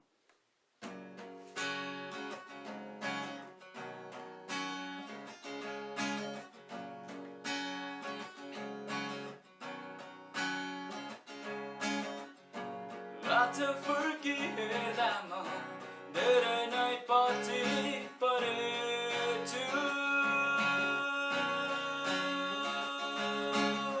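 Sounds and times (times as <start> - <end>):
acoustic guitar strumming chords: 0.8 - 24.0.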